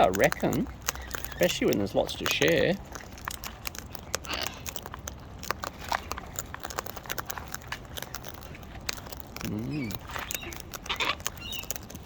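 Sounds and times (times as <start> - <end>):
parrots cracking nuts: 0.0 - 12.0.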